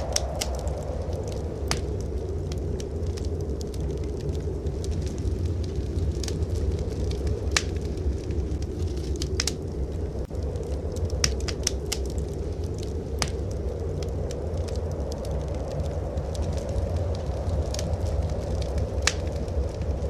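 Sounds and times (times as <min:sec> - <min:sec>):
blizzard wind rumbling: 0:00.0 - 0:20.0
wood fire crackling: 0:00.0 - 0:20.0.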